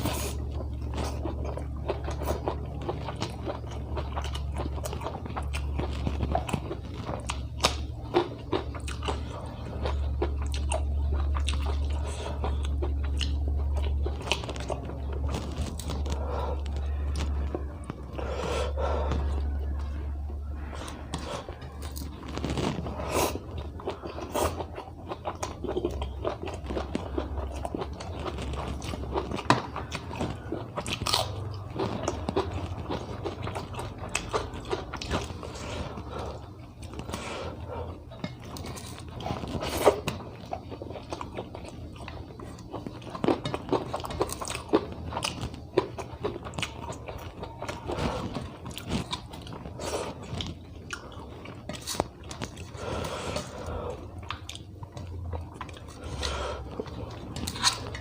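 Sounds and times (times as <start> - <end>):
faint low hum: 0.0 - 58.0
person chewing and crunching: 0.0 - 58.0.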